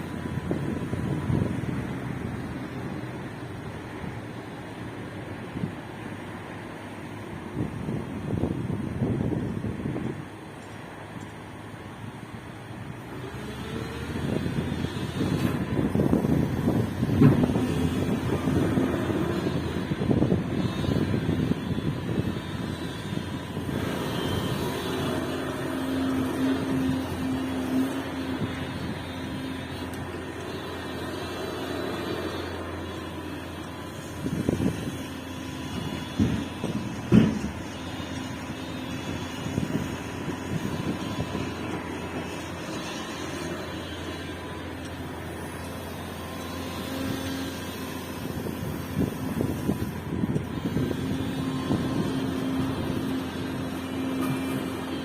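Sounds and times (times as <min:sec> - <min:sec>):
excavator engine and hydraulics: 0:00.0 - 0:55.0
steady whine: 0:00.0 - 0:55.0.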